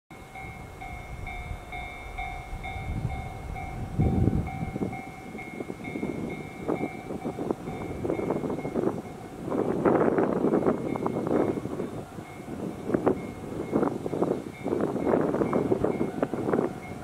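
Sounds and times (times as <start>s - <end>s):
wind rumble on microphone: 0.4s - 17.0s.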